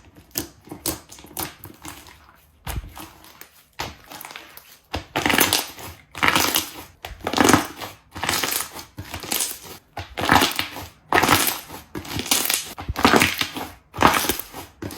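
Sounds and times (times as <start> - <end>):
slime squelching and crackling: 0.0 - 14.9.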